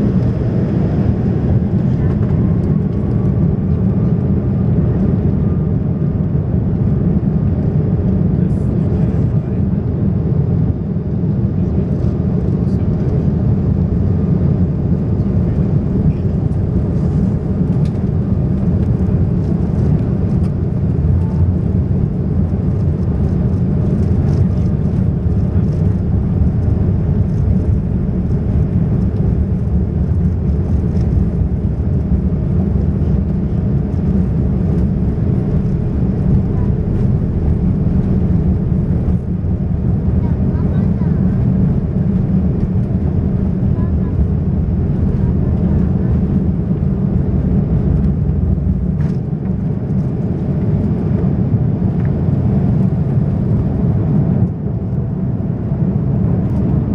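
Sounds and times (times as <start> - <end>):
aircraft cabin low rumble: 0.0 - 56.9.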